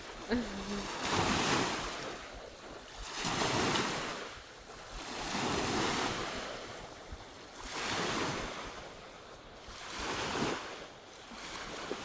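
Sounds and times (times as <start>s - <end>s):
waves washing on shore: 0.0s - 12.0s.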